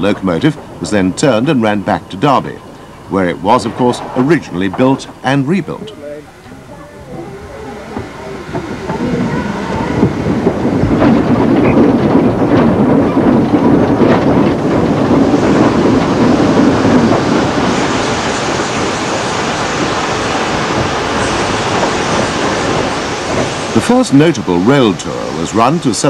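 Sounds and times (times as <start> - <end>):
train wheels clattering over rail joints: 0.0 - 26.0.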